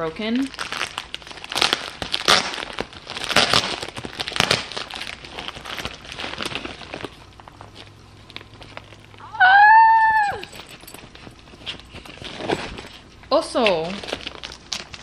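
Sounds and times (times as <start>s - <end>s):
paper bag crinkling and rustling: 0.0s - 9.2s, 10.3s - 15.0s.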